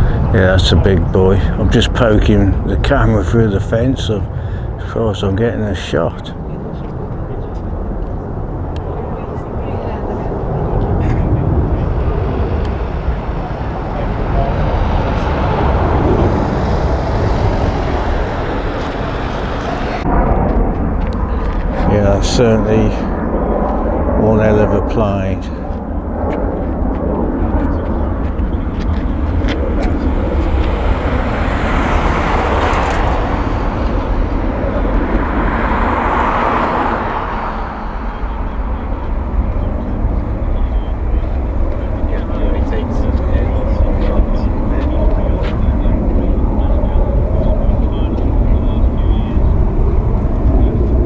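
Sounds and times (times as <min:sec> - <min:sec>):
aircraft engines rumbling: 0:00.0 - 0:51.0.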